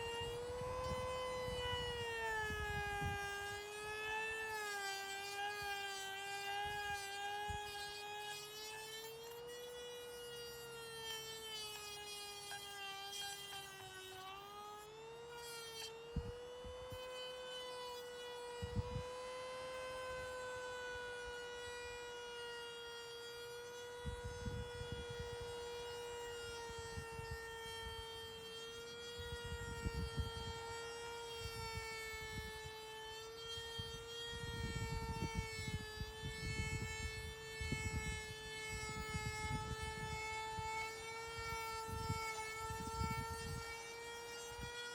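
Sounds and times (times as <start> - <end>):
power tool motor whining: 0.0 - 44.9.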